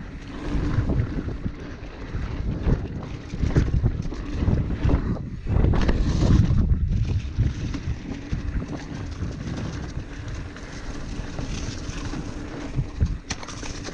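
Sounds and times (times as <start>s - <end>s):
bike tyres rolling on dirt: 0.0s - 13.9s
wind buffeting microphone: 0.0s - 13.9s.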